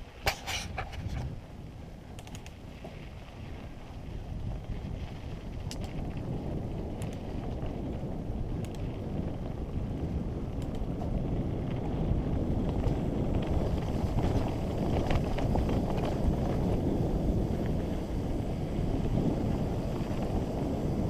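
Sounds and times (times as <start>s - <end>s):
bike tyres running over dirt: 0.0s - 21.0s
wind rumbling on microphone: 0.0s - 21.0s
bike clicks and rattles: 0.1s - 21.0s.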